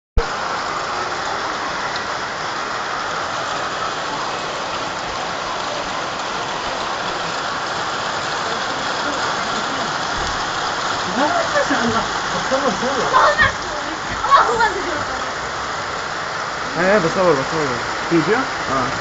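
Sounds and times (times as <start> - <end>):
heavy rain on hard surfaces: 0.2 - 19.0.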